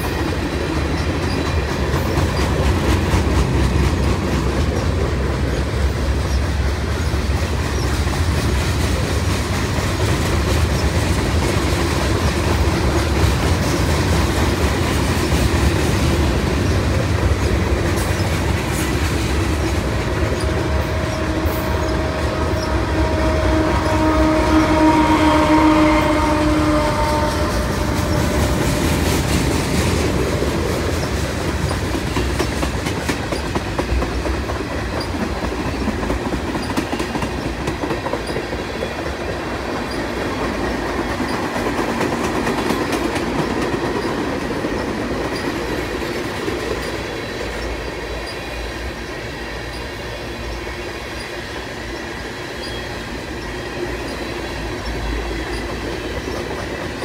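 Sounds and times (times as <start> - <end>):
locomotive droning tone: 0.0 - 57.0
train rumble: 0.0 - 57.0
train wheels clattering: 0.0 - 57.0.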